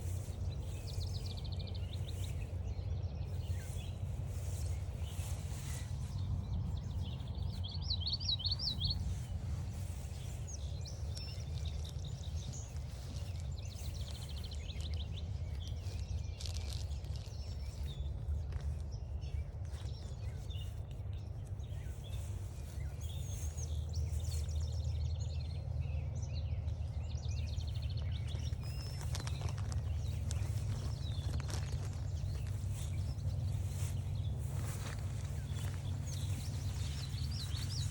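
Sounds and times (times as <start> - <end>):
songbirds singing: 0.0 - 37.9
steady low rumble: 0.0 - 37.9.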